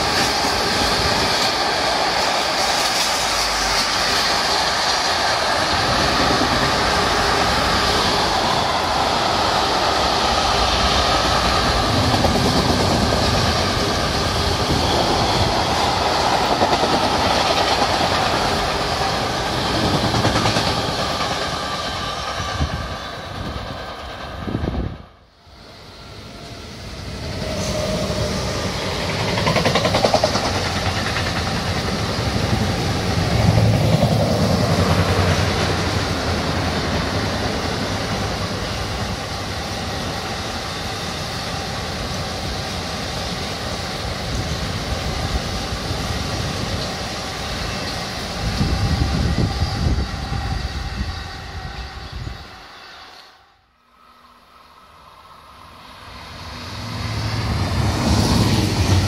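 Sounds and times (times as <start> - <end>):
freight train wheels rumbling: 0.0 - 53.1, 55.5 - 59.0.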